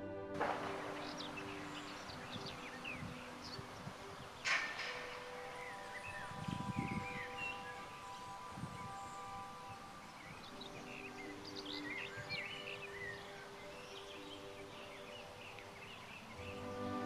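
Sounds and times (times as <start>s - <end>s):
birds chirping: 0.0s - 17.0s
insects buzzing: 0.4s - 17.0s.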